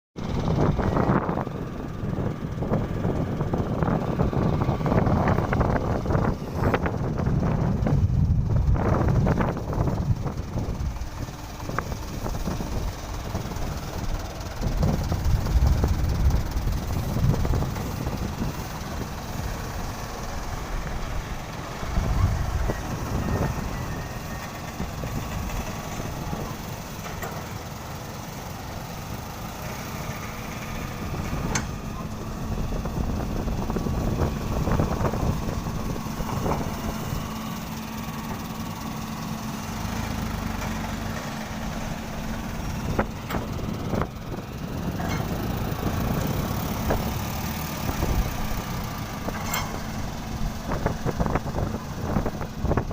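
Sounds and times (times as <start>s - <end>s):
diesel engines rumbling: 0.2s - 52.9s.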